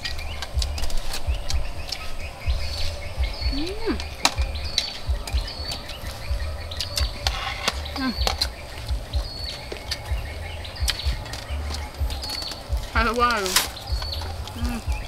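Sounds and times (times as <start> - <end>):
birds chirping: 0.0 - 15.0
low rumble: 0.0 - 15.0.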